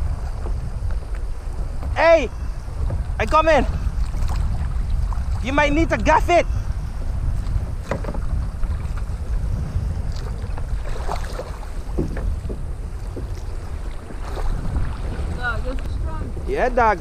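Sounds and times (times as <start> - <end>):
small waves slapping hull: 0.0 - 17.0
wind buffeting microphone: 0.0 - 17.0.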